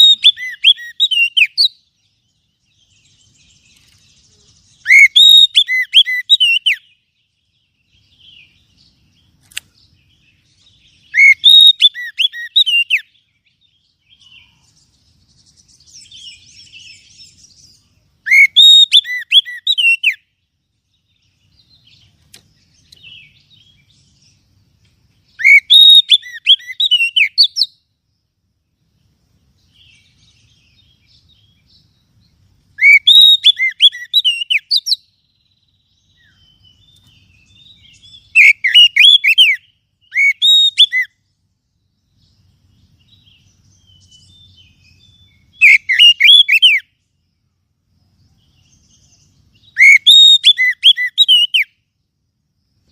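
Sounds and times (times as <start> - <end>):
bird whistling song: 0.0 - 24.5, 25.2 - 27.9, 29.6 - 47.2, 48.2 - 51.9.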